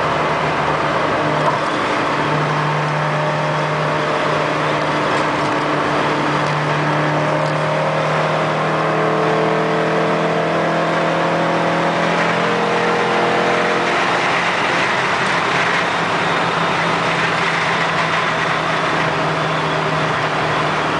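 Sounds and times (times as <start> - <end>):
car engine pulling hard: 0.0 - 20.9
wind and road noise: 0.0 - 20.9.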